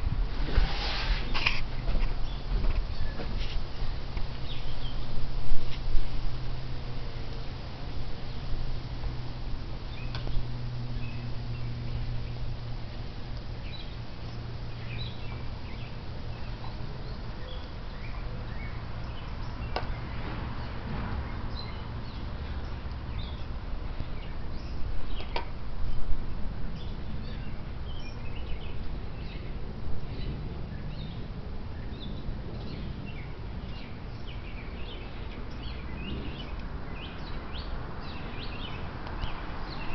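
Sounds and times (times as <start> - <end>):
small birds chirping: 1.2 - 6.2, 9.8 - 39.9.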